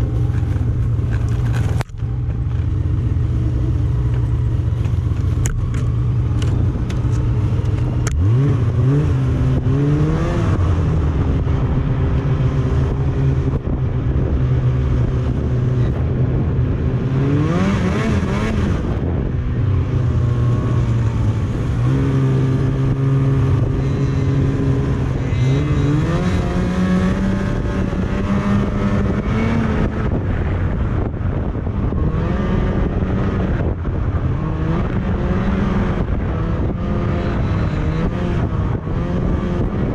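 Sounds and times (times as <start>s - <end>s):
snowmobile engine revving: 5.4s - 30.2s, 31.8s - 39.9s.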